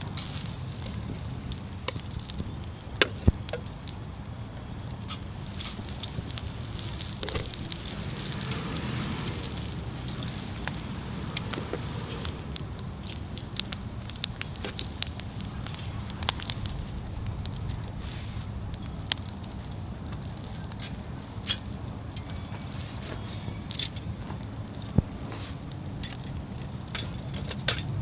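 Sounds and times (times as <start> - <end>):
steady hiss: 0.0 - 28.0
wood fire crackling and popping: 0.0 - 28.0.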